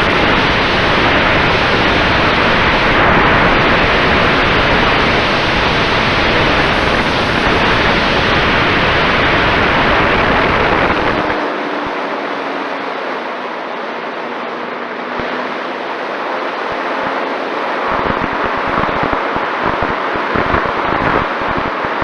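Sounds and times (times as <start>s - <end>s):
rushing wind: 0.0s - 22.0s.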